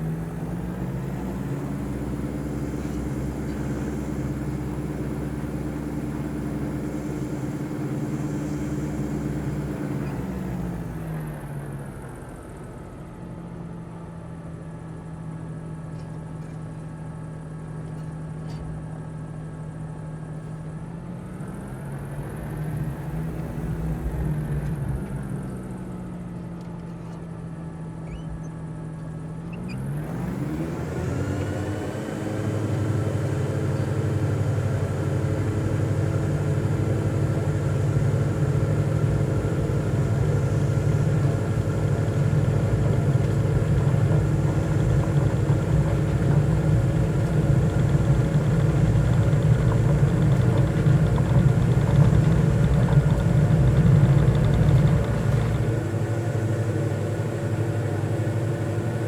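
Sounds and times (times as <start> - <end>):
motor running steadily: 0.0 - 12.6, 21.4 - 59.0.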